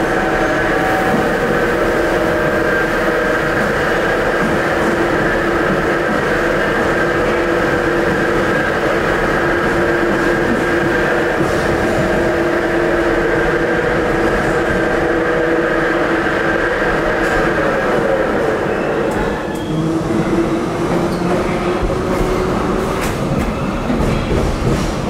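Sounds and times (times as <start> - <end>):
metro car rumbling: 0.0 - 25.0.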